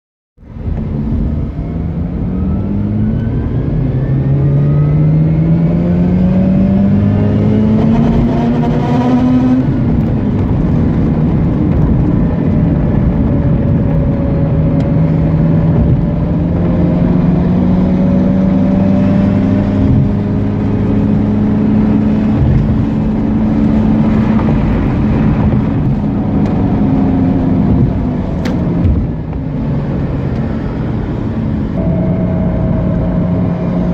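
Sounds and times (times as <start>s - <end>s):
rotary engine accelerating: 0.4s - 33.9s.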